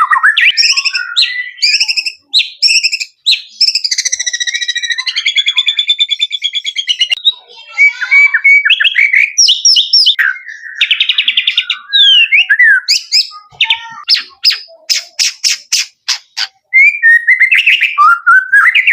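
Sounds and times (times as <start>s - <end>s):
songbird singing varied song: 0.0s - 18.9s.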